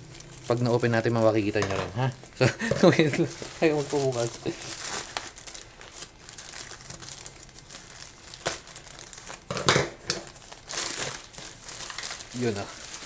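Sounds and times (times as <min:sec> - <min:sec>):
packaging ripping: 0:00.0 - 0:02.3, 0:02.9 - 0:13.0
packaging crinkling and rustling: 0:00.0 - 0:13.0.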